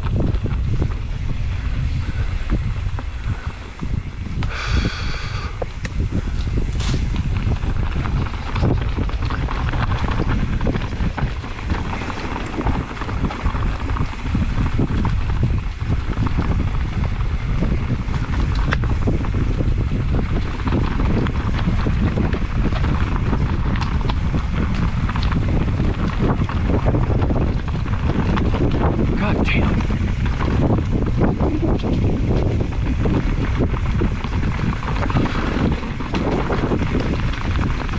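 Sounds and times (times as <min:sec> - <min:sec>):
bike rattling over rough trail: 0:00.0 - 0:37.9
wind buffeting microphone: 0:00.0 - 0:37.9.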